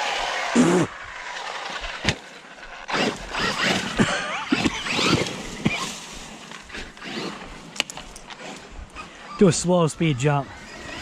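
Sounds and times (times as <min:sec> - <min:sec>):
electric motor whine: 0:00.0 - 0:05.9, 0:06.5 - 0:11.0.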